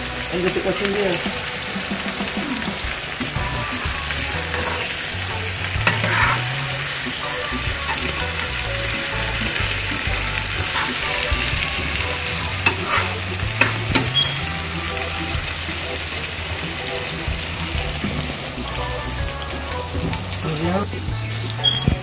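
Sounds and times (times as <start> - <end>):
food sizzling in oil: 0.0 - 22.0
stirring in a pot: 2.3 - 22.0.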